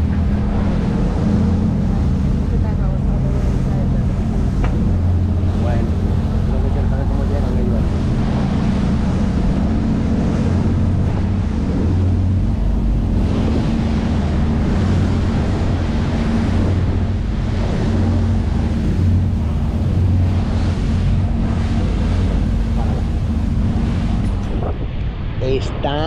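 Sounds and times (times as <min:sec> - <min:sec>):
boat engine hum: 0:00.0 - 0:26.0
rushing water: 0:00.0 - 0:26.0
wind buffeting microphone: 0:00.0 - 0:26.0.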